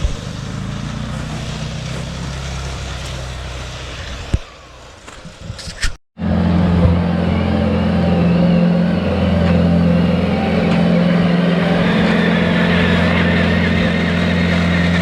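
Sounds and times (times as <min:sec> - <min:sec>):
vehicle engine running steadily: 0:00.0 - 0:05.4, 0:06.2 - 0:15.0.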